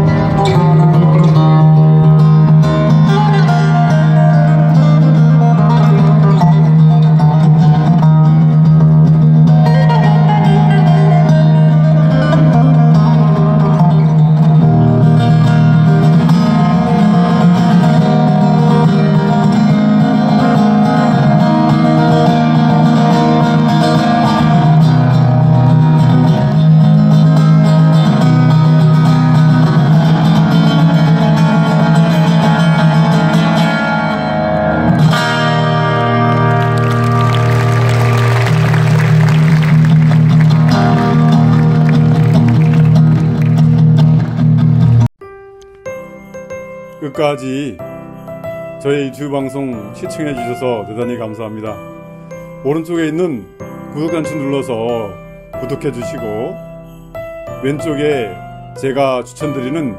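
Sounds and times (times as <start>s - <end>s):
acoustic guitar plucked melody: 0.0s - 59.9s.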